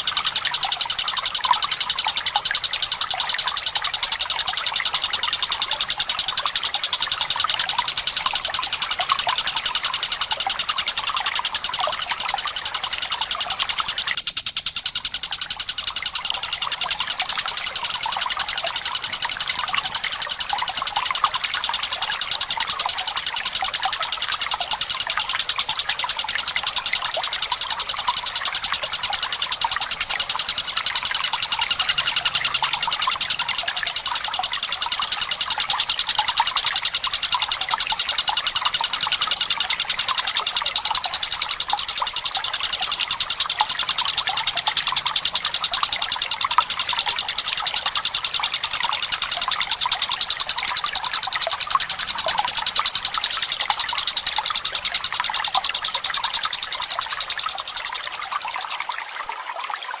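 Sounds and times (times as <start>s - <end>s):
running water trickling: 0.0s - 14.2s, 14.8s - 60.0s
kingfisher rattling trill: 0.0s - 58.2s.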